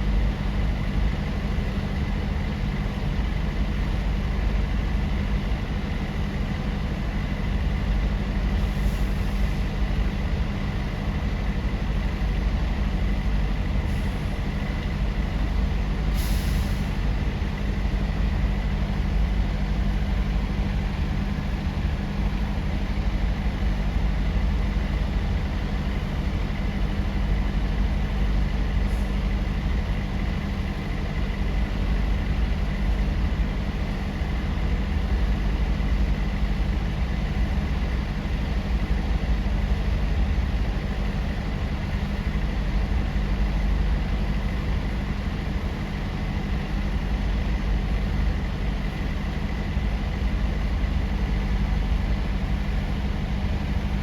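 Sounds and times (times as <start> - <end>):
large engine idling: 0.0 - 54.0.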